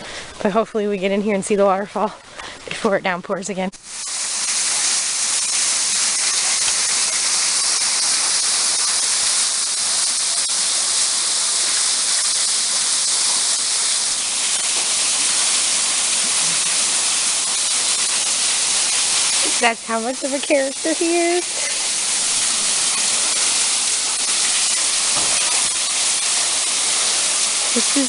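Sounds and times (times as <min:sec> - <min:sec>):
waterfall rushing: 0:04.2 - 0:28.0.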